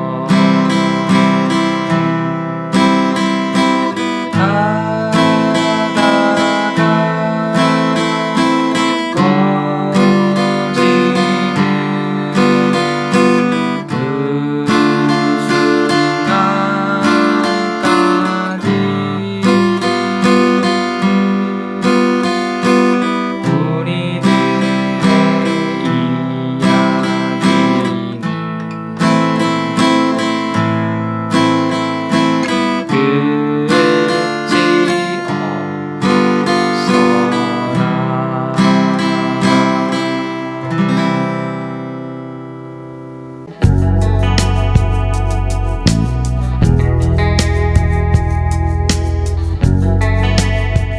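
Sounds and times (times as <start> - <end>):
acoustic guitar strumming chords: 0.0 - 50.9.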